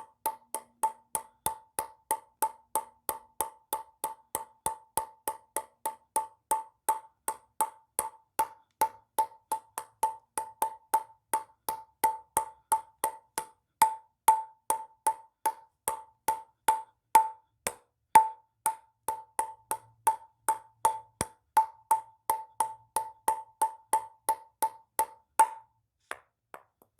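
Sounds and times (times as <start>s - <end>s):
ping-pong ball bouncing: 0.0s - 26.9s.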